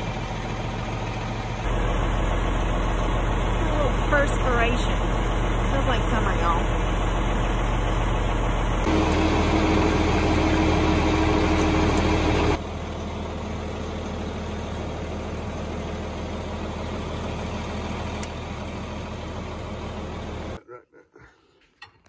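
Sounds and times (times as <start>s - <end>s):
tractor engine idling: 0.0s - 20.6s.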